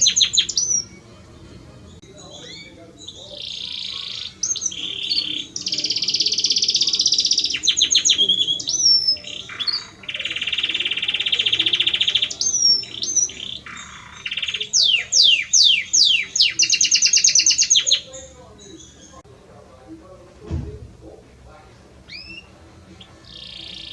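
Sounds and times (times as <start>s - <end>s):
canary singing: 0.0s - 19.3s, 22.0s - 23.9s.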